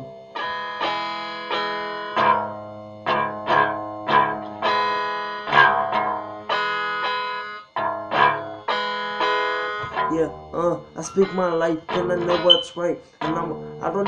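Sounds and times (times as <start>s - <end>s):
guitar riff: 0.0s - 14.0s.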